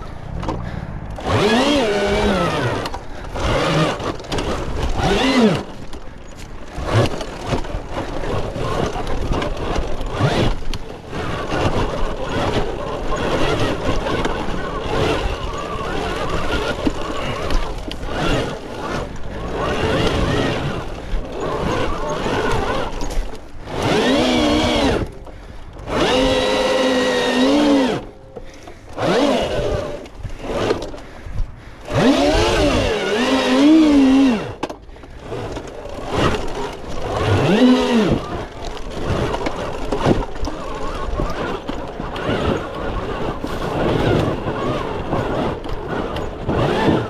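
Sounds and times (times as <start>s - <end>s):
electric motorcycle motor whining: 0.0s - 47.0s
tyres on dirt and rock: 0.0s - 47.0s.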